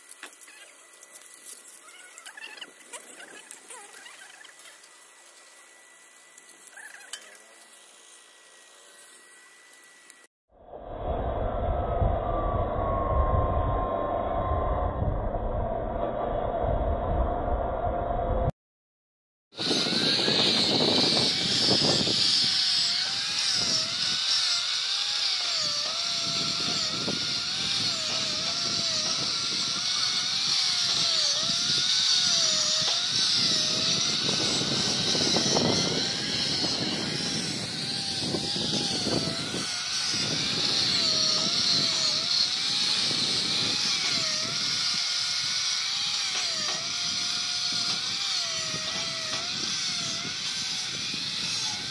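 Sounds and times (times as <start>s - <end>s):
electric drill whining: 0.0s - 10.3s, 19.6s - 51.9s.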